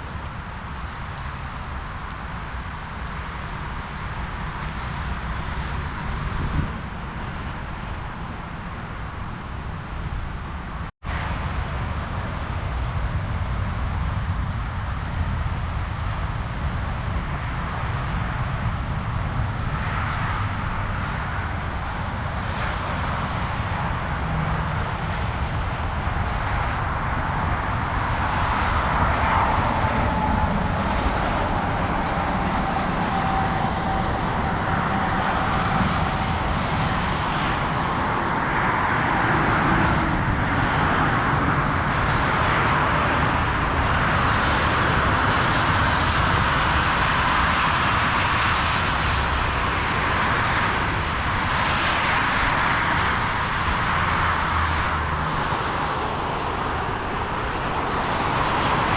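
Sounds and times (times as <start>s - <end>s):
motorway traffic: 0.0s - 58.9s.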